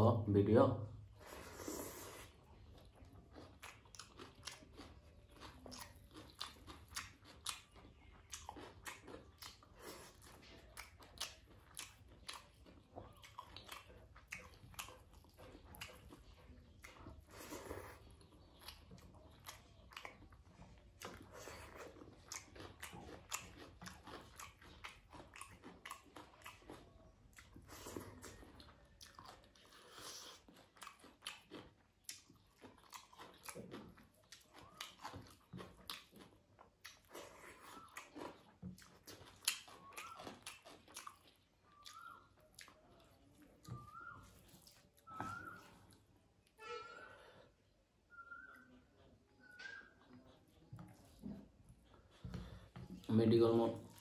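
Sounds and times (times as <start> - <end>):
chewing and lip-smacking: 1.2 - 46.6, 47.4 - 54.0.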